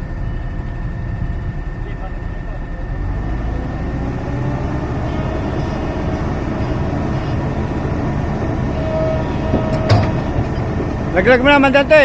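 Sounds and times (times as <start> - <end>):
diesel engine rumbling: 0.0 - 12.0
faint high whine: 0.0 - 12.0.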